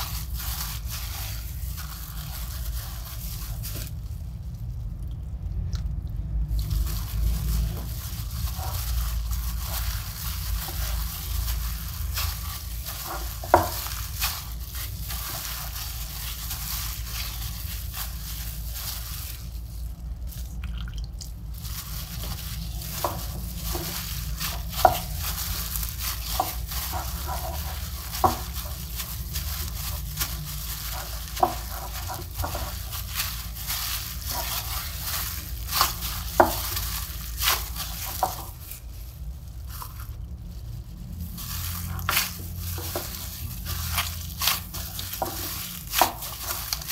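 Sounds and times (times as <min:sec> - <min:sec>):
hand squeezing damp dough: 0:00.0 - 0:46.9.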